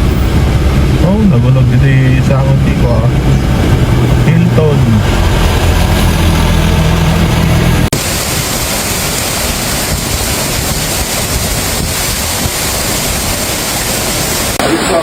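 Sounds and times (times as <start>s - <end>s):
steady rushing noise: 0.0s - 15.0s
vehicle engine humming: 0.0s - 15.0s.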